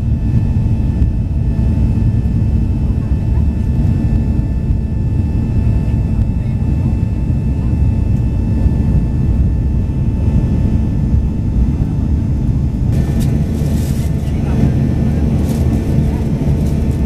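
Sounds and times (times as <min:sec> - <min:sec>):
jet engines rumbling in cabin: 0:00.0 - 0:17.0.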